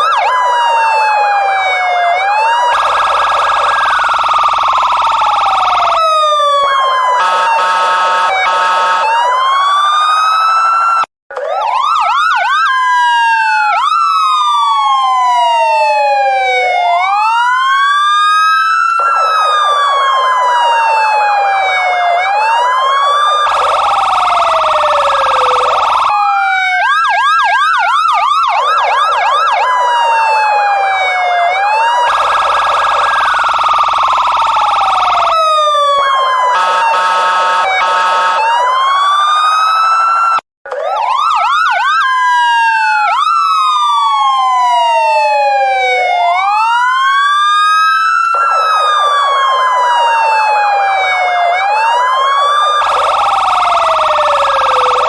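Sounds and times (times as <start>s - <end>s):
police siren wailing and yelping: 0.0s - 55.0s.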